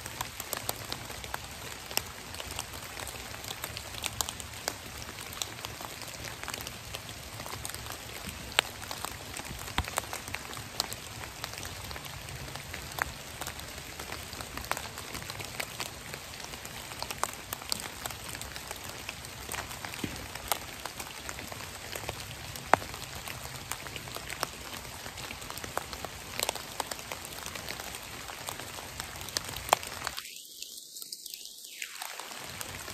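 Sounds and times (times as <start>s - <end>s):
drops ticking on leaves: 0.0s - 32.9s
rain hissing on leaves: 0.0s - 32.9s.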